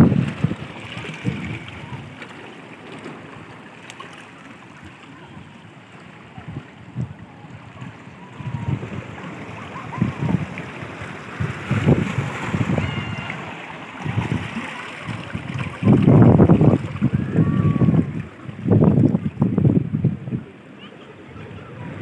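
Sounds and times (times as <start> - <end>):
waves washing over rocky shore: 0.0 - 22.0.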